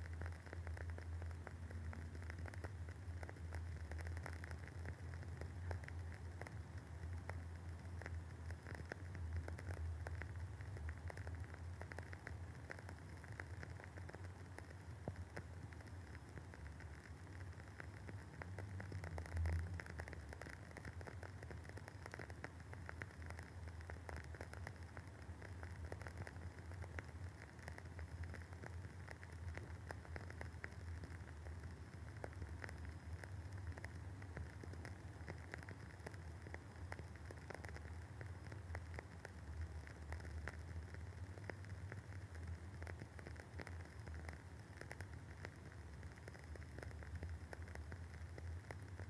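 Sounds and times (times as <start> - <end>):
candle wick crackling: 0.0 - 49.0
low steady hum: 0.0 - 49.0.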